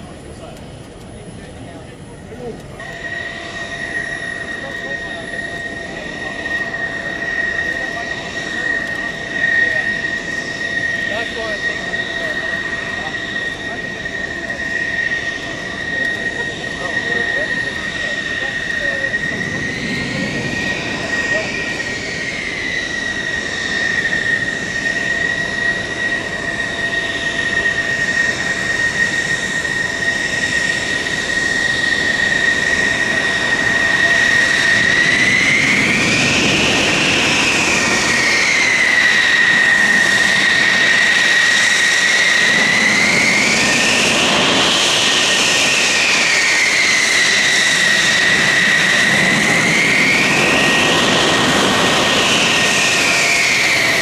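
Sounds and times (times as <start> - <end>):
jet engine whining: 0.0 - 54.0.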